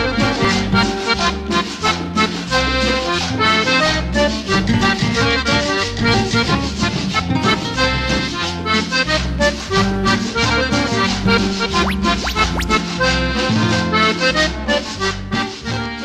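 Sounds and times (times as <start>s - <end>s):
cumbia music with accordion: 0.0s - 16.0s.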